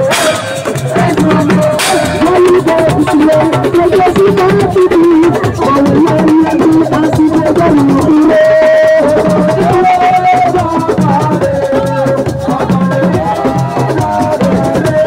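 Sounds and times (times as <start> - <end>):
drums: 0.0 - 15.0
person singing melody: 0.0 - 15.0
shakers: 0.0 - 15.0.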